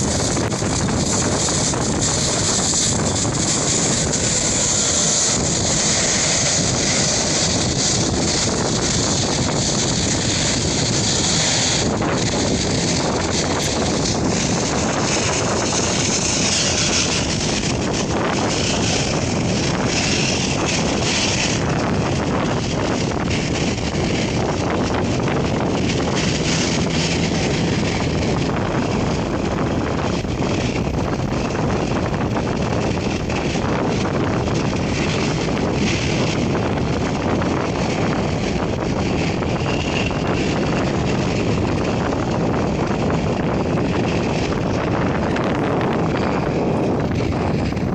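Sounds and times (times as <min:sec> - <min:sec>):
jet engines roaring: 0:00.0 - 0:47.9
wind buffeting microphone: 0:00.0 - 0:47.9.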